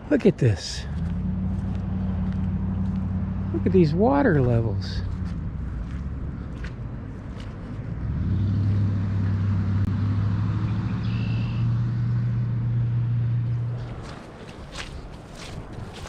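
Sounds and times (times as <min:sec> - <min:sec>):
motor engine humming: 0:00.8 - 0:15.1.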